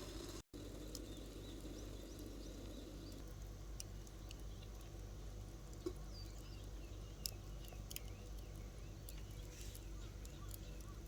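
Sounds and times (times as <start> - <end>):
low background hum: 0.0 - 11.0
small birds chirping: 0.0 - 11.0.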